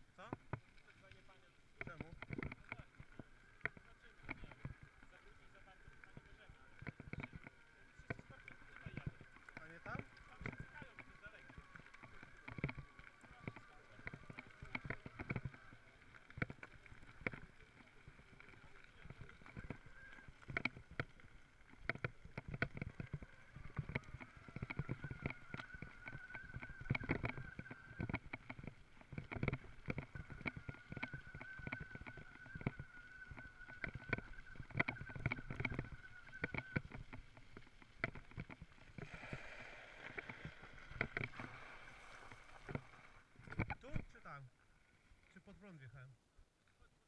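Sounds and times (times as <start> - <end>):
bike knocking and rattling: 0.0 - 44.1.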